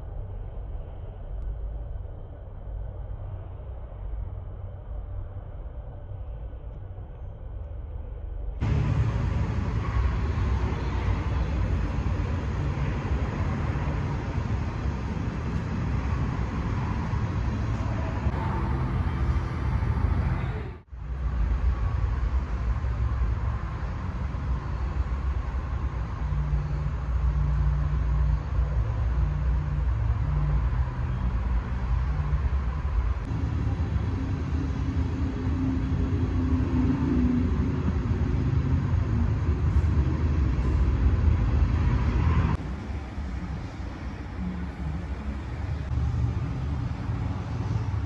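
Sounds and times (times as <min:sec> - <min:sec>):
low mechanical rumble: 0:00.0 - 0:48.0
shifting low hums: 0:00.0 - 0:48.0.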